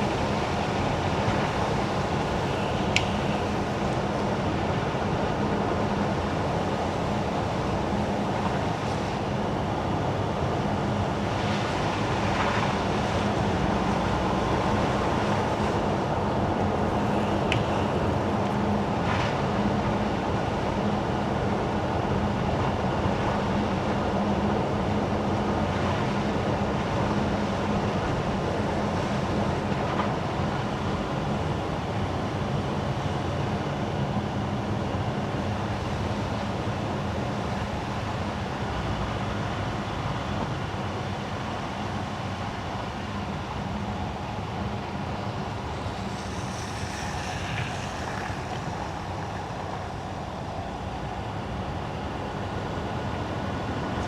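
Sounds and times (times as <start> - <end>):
tyre and road noise: 0.0 - 22.9, 24.8 - 54.0
low engine hum: 0.0 - 54.0.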